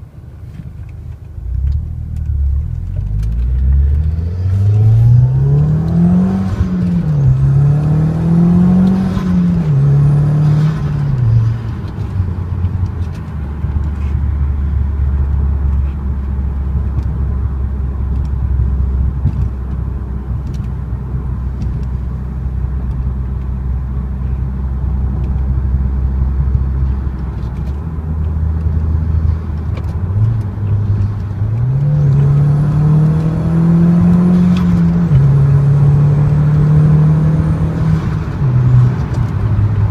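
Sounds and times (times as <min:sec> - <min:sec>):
car engine running on the road: 0:00.0 - 0:39.9.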